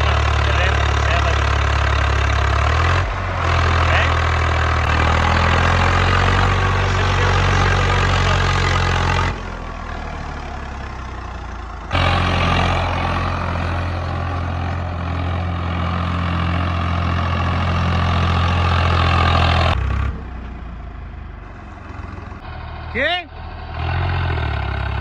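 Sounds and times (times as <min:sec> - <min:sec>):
tractor diesel engine droning: 0:00.0 - 0:25.0.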